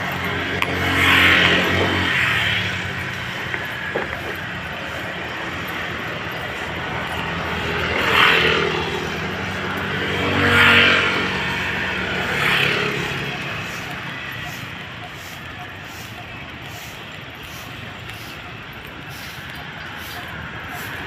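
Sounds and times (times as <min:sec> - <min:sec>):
road traffic noise: 0:00.0 - 0:21.0
vehicles passing by: 0:00.0 - 0:21.0.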